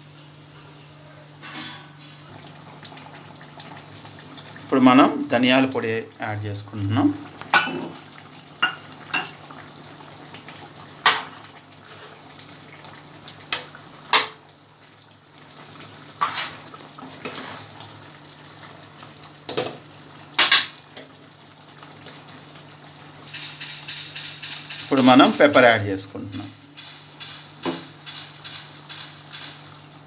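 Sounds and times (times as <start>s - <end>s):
curry sizzling: 1.4s - 30.0s.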